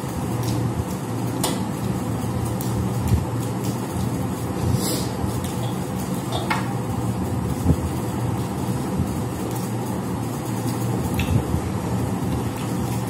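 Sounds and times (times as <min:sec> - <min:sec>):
low mechanical hum and rumble: 0:00.0 - 0:13.0.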